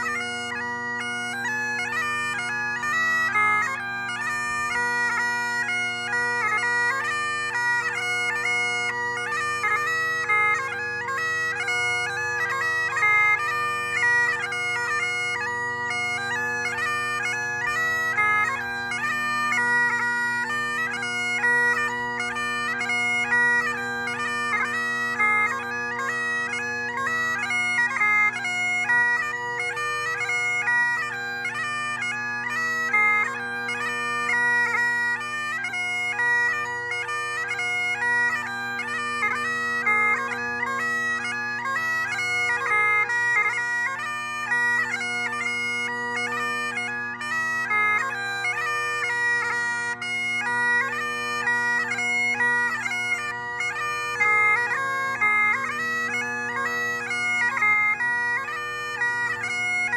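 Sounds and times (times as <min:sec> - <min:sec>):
bagpipe drone: 0:00.0 - 0:59.9
bagpipe melody with grace notes: 0:00.0 - 0:59.9.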